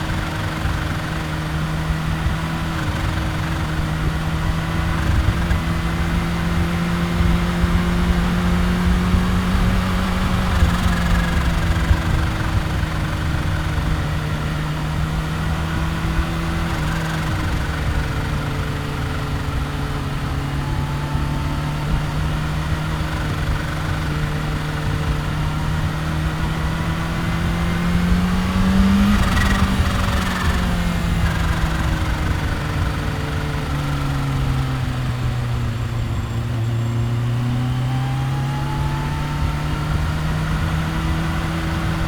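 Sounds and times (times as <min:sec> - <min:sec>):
motorcycle engine cruising: 0:00.0 - 0:42.0.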